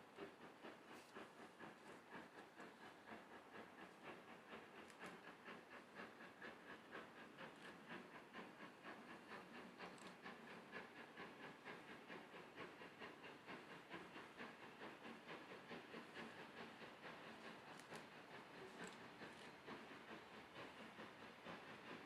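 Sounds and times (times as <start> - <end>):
steam hissing: 0.0 - 22.0
steam locomotive exhaust beats: 0.0 - 22.0.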